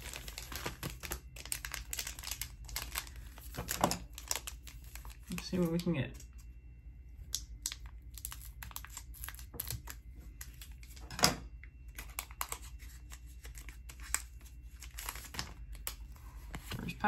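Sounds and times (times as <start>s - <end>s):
scissors snipping foil wrapper: 0.0s - 6.3s, 7.3s - 11.0s, 11.9s - 16.0s
foil wrapper crackling: 0.0s - 6.4s, 7.3s - 11.1s, 11.8s - 17.0s.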